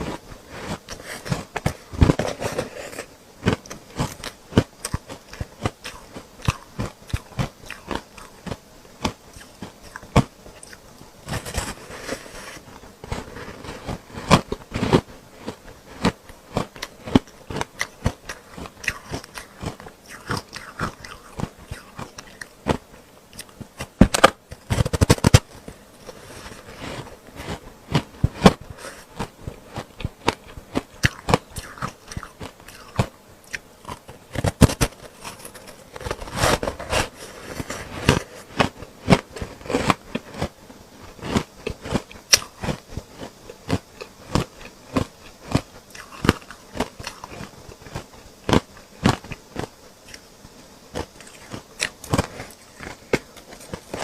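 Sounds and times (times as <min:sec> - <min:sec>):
ice being chewed with crunches: 0:00.0 - 0:25.4, 0:26.1 - 0:50.2, 0:50.9 - 0:54.0.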